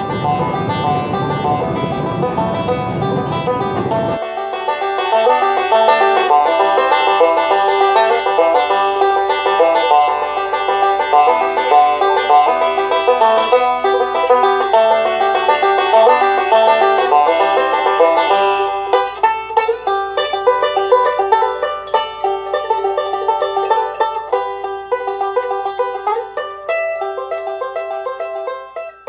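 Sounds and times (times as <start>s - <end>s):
country banjo picking tune: 0.0s - 29.0s.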